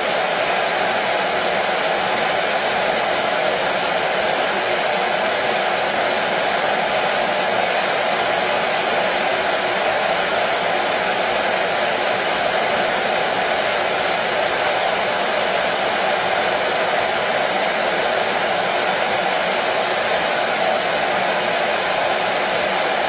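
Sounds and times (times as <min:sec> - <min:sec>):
washing machine whirring: 0:00.0 - 0:23.0.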